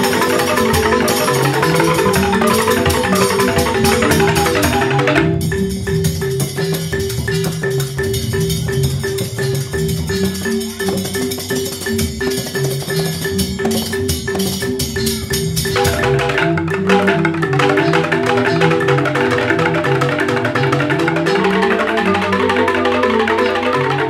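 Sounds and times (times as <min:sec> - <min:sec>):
bamboo xylophones: 0:00.0 - 0:24.0
drum and clicking percussion: 0:00.0 - 0:24.0.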